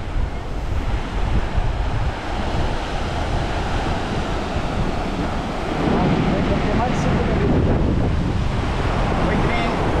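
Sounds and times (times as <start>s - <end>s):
small waves breaking on sand: 0.0s - 10.0s
wind buffeting microphone: 0.0s - 10.0s.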